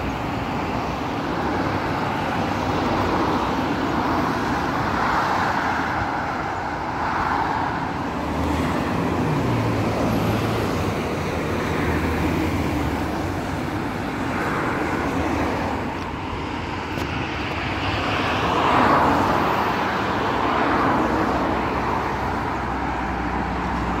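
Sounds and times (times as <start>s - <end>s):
road traffic rushing: 0.0s - 24.0s.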